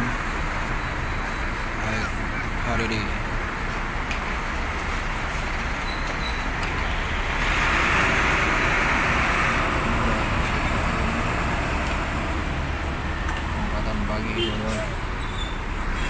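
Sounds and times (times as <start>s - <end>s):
bus engine idling: 0.0s - 16.0s
road traffic: 0.0s - 16.0s.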